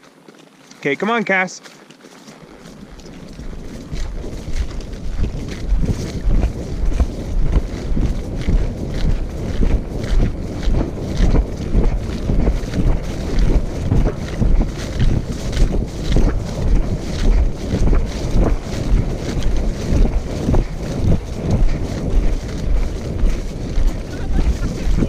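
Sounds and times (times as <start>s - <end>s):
horse hoofbeats: 0.0s - 25.0s
wind noise on microphone: 2.5s - 25.0s.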